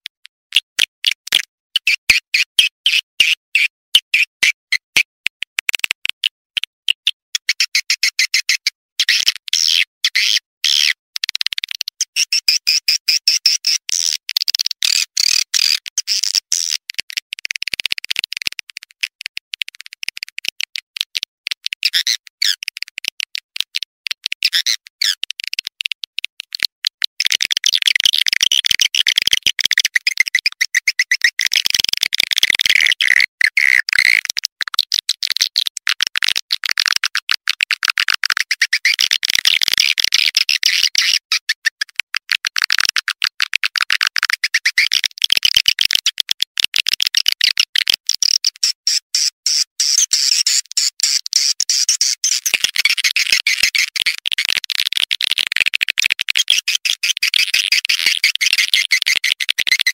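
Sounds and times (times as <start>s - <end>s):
rapid clicking twitters: 11.2s - 59.9s.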